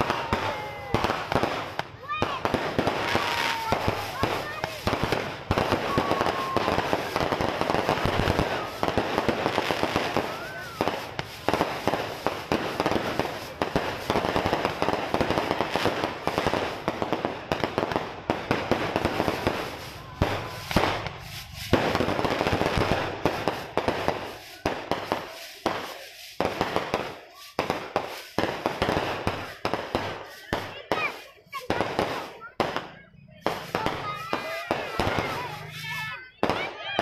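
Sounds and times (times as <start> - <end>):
fireworks crackling and banging: 0.0 - 37.0.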